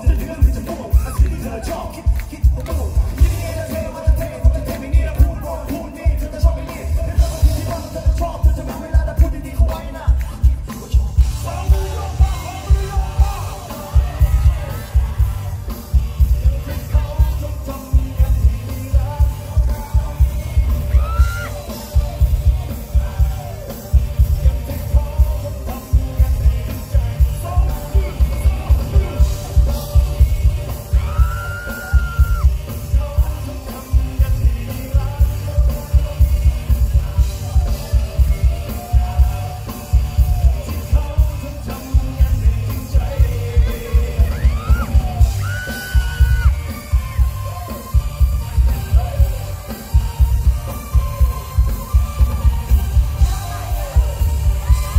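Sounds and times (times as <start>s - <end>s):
heavy bass beat: 0.0s - 54.9s
voices singing and yelling: 0.0s - 54.9s.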